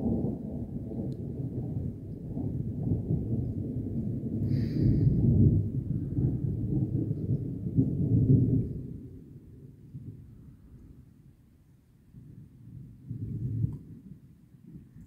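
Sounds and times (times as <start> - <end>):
thunder rumbling: 0.0 - 11.1, 12.2 - 15.0.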